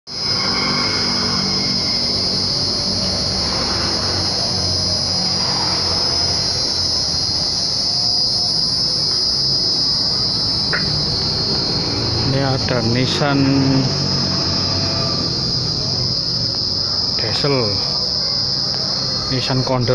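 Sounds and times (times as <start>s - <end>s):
insects shrilling: 0.1s - 19.9s.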